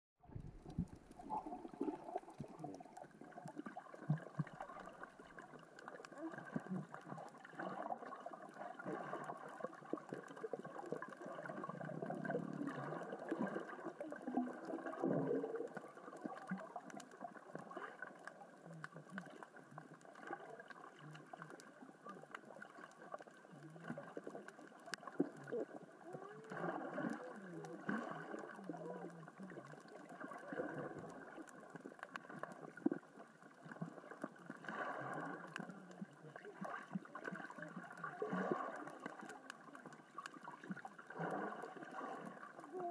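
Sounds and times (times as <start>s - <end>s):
low gurgling water wash: 0.2s - 42.9s
rocks crackling and clicking underwater: 0.2s - 42.9s.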